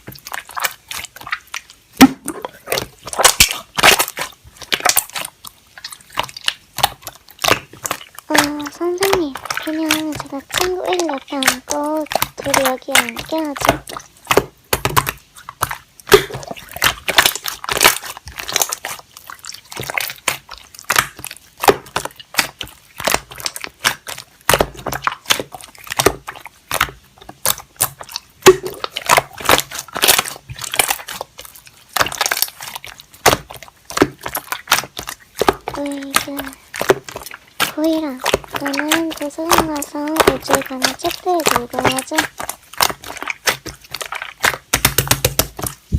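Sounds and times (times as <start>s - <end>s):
slime squishing and popping: 0.0s - 45.9s.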